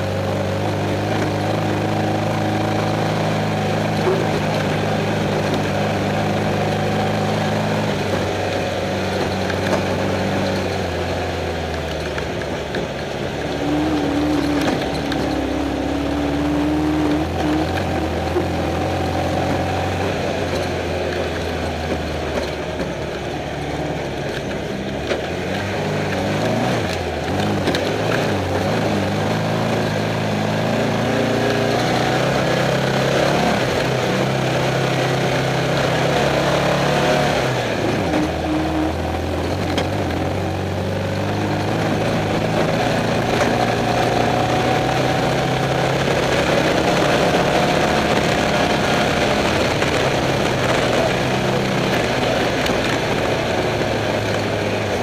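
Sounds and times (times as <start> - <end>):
race car engine running: 0.0 - 55.0
road and wind noise: 0.0 - 55.0.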